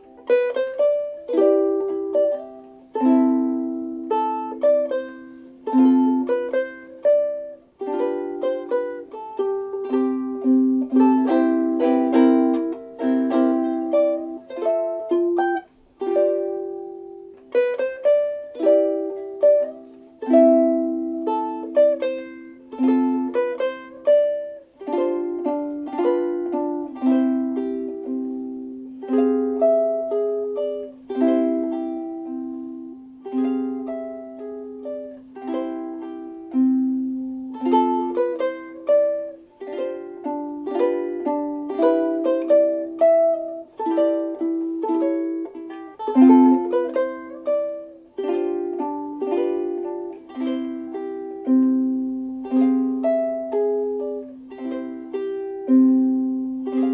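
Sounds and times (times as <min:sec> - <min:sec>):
ukulele plucked chords and melody: 0:00.0 - 0:56.9.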